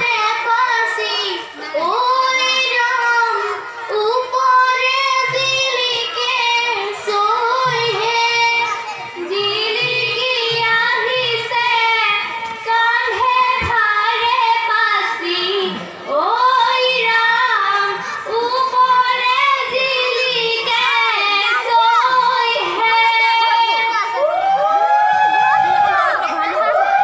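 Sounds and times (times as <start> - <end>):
girls singing through microphones: 0.0 - 27.0.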